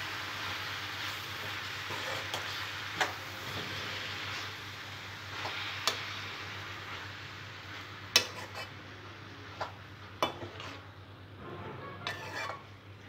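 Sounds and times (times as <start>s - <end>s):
vegetables sizzling in oil: 0.0s - 11.2s, 12.0s - 13.0s.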